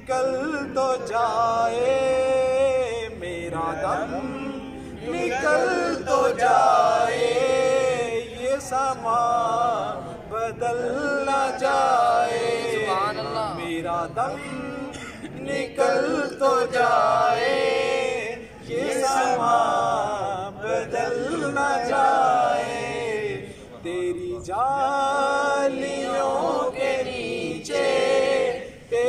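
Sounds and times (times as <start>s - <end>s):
man singing unaccompanied: 0.0s - 17.3s, 19.0s - 26.8s, 27.5s - 29.0s.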